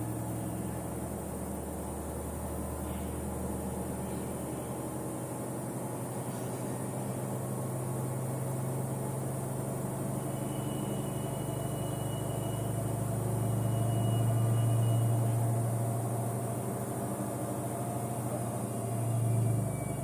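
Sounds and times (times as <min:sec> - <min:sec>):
faint high whine: 0:00.0 - 0:20.0
washing machine humming: 0:00.0 - 0:20.0.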